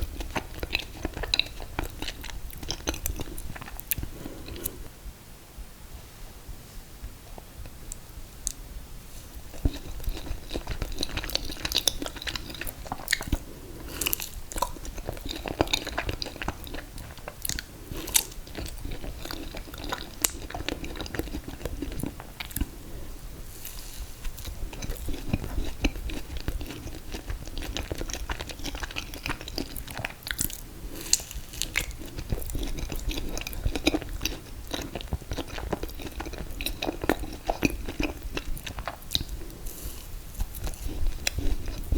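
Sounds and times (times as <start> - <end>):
chewing with wet mouth clicks: 0.0 - 4.8, 9.5 - 22.8, 23.6 - 41.9.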